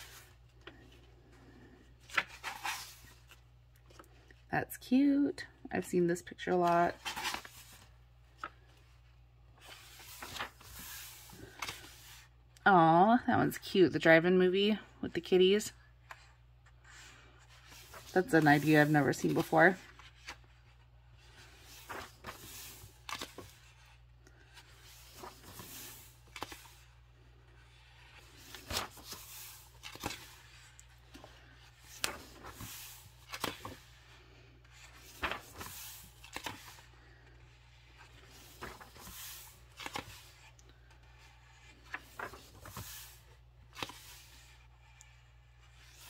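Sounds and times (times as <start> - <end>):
book pages turning: 0.0 - 4.4, 6.5 - 12.3, 16.1 - 46.0.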